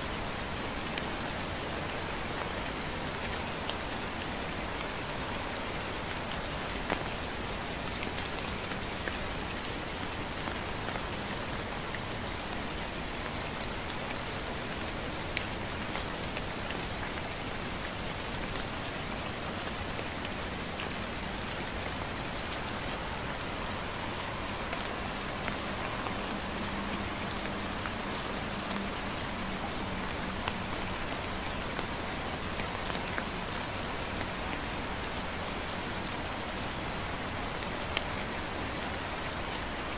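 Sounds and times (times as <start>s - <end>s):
gentle rain on pavement: 0.0s - 39.9s.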